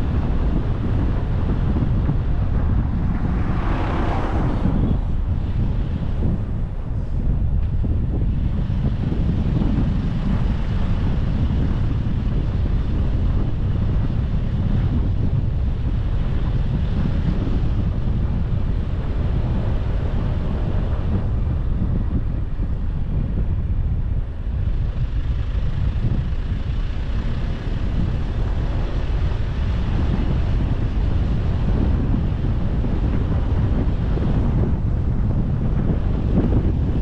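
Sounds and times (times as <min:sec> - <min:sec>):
car road rumble: 0:00.0 - 0:37.0
wind buffeting: 0:00.0 - 0:37.0.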